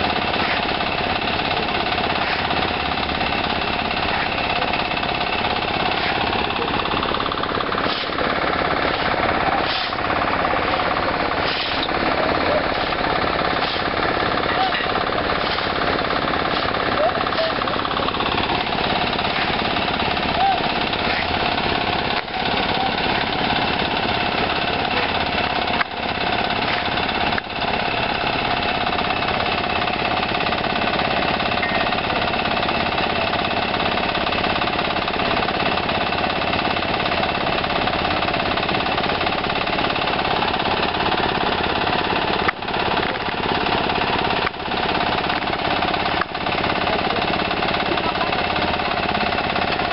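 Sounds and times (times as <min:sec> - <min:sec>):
construction machinery running: 0:00.0 - 0:49.9.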